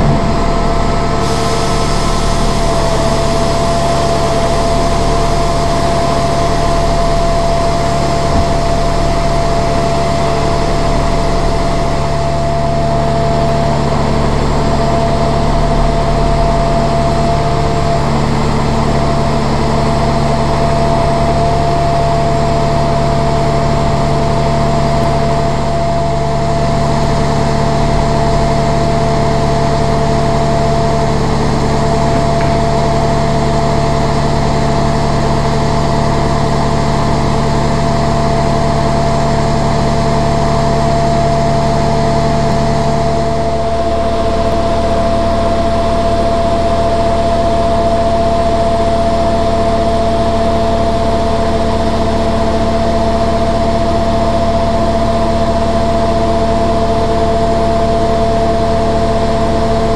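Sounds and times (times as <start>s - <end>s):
constant whine: 0.0s - 50.3s
diesel engine running: 0.0s - 59.9s.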